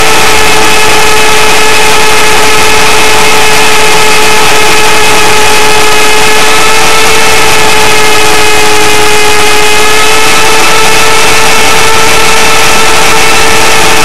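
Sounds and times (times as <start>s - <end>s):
high motor and gear whine: 0.0s - 14.0s
rotor and wind rush: 0.0s - 14.0s.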